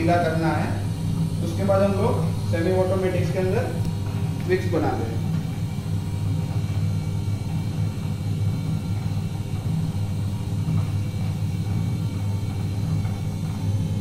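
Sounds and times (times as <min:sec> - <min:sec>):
machine drive humming: 0:00.0 - 0:14.0.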